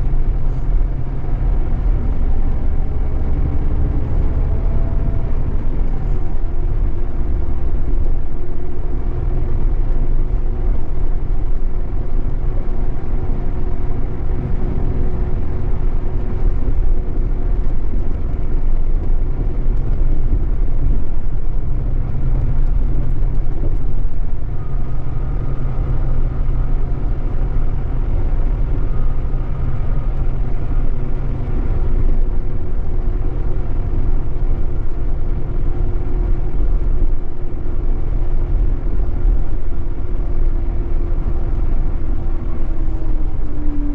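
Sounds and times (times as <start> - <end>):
bus diesel engine drone: 0.0 - 43.9
road noise: 0.0 - 43.9.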